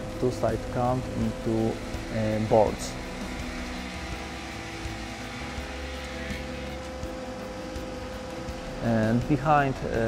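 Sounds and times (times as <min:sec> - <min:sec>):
saw machinery drone: 0:00.0 - 0:10.0.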